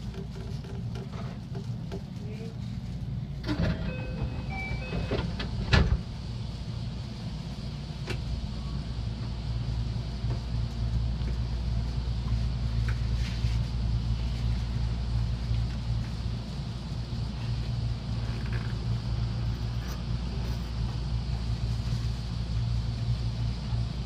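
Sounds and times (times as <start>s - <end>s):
electric train humming: 0.0s - 24.0s.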